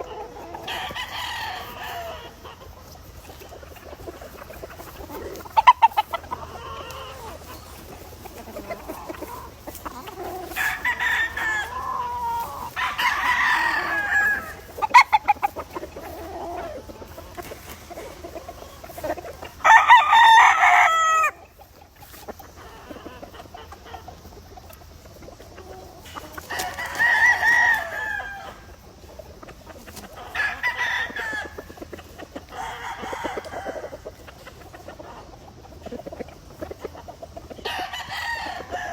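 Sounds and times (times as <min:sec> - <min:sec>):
hens clucking: 0:00.0 - 0:38.9
roosters crowing: 0:00.0 - 0:38.9.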